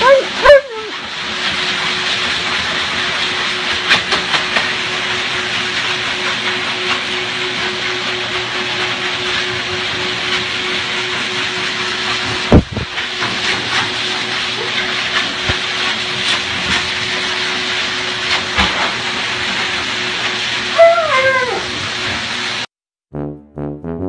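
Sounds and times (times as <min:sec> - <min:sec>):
pet dryer blowing air: 0:00.0 - 0:22.7.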